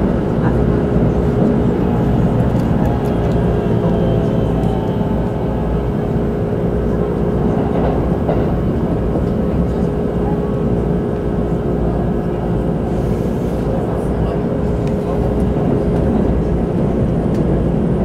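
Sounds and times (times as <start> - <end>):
constant train hum: 0.0 - 18.0
train wheels rumbling on rails: 0.0 - 18.0.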